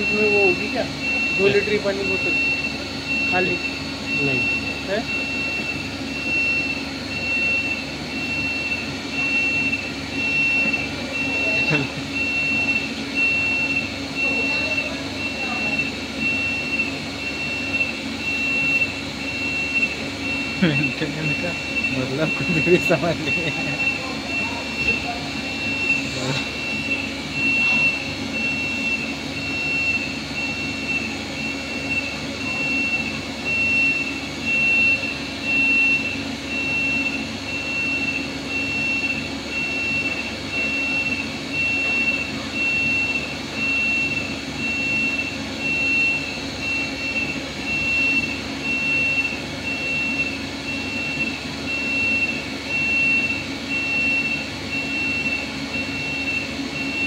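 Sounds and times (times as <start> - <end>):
pulsing high-pitched tone: 0.0 - 57.0
steady mechanical hum: 0.0 - 57.0.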